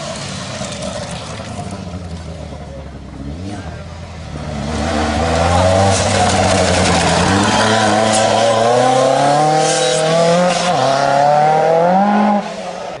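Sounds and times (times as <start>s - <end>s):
rally car engine accelerating hard: 0.0s - 13.0s.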